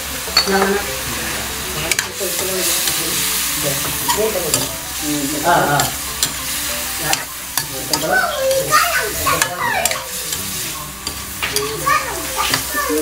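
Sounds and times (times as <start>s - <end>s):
food sizzling in a wok: 0.0s - 13.0s
spatula scraping a pan: 1.0s - 13.0s.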